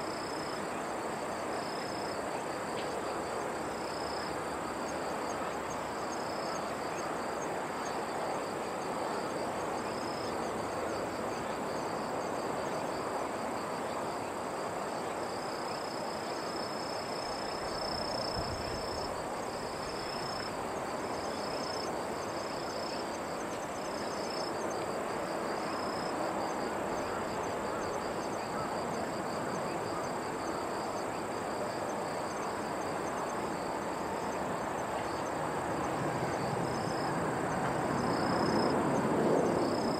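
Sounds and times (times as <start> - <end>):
insect chirping call: 0.0 - 39.9
insects trilling: 0.0 - 39.9
outdoor background noise: 0.0 - 39.9.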